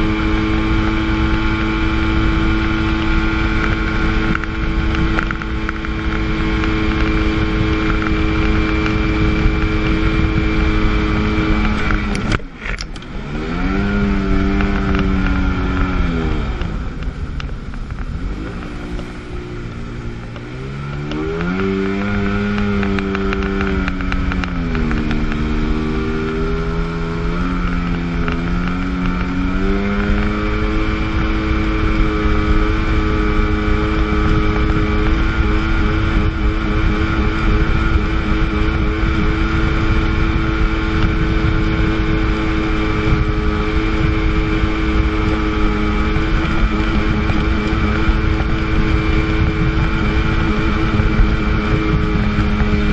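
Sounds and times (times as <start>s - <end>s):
jet ski engine running: 0.0s - 52.9s
wind and water rushing: 0.0s - 52.9s.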